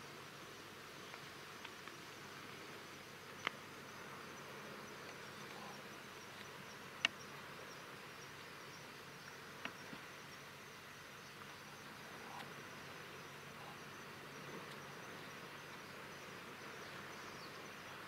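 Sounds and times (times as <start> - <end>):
faint outdoor background hiss: 0.0 - 18.0.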